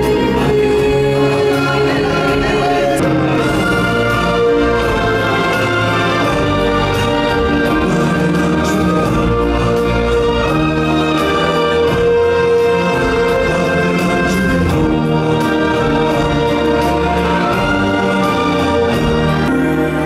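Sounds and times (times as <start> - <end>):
orchestral music with held chords: 0.0 - 20.0.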